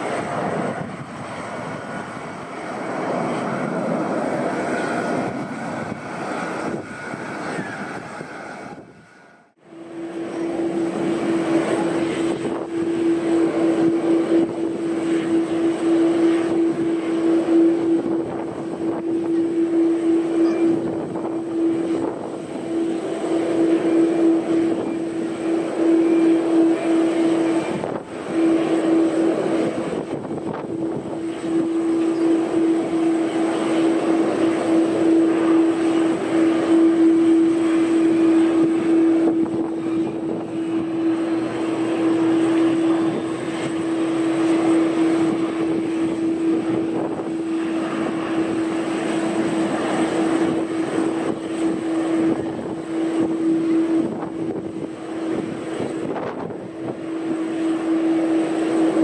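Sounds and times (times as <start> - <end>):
airliner turbine whine: 0.0 - 59.0.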